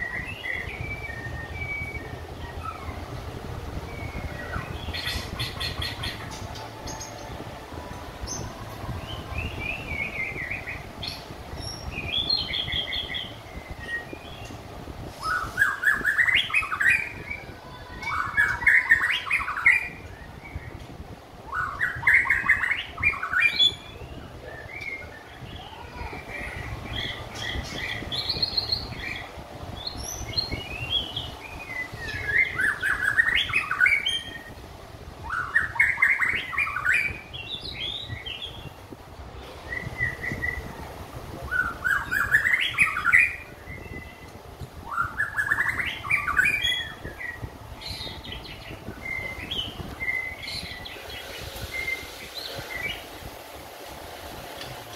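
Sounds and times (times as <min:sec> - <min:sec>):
bird singing whistled notes: 0:00.0 - 0:07.4, 0:08.2 - 0:14.6, 0:15.2 - 0:20.8, 0:21.5 - 0:34.6, 0:35.2 - 0:38.8, 0:39.6 - 0:40.7, 0:41.5 - 0:53.1.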